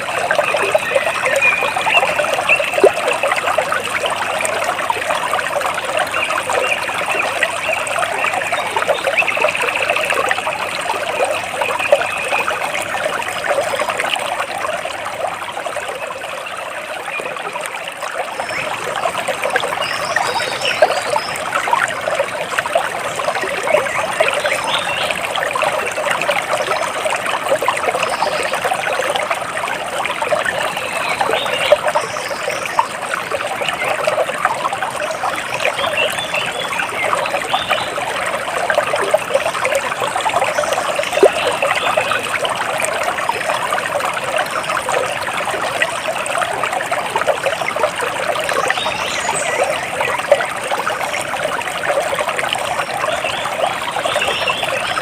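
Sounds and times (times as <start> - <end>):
stream water splashing: 0.0 - 55.0.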